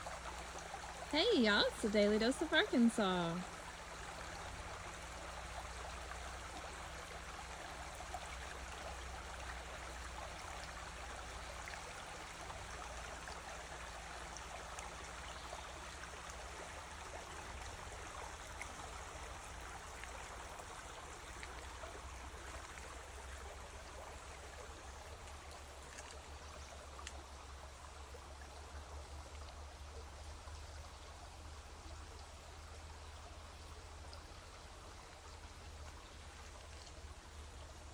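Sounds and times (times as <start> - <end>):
river water flowing: 0.0 - 37.9.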